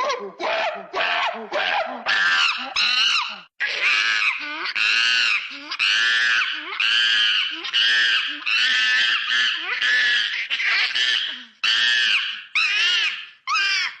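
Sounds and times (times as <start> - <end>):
monkey high-pitched calls: 0.0 - 14.0.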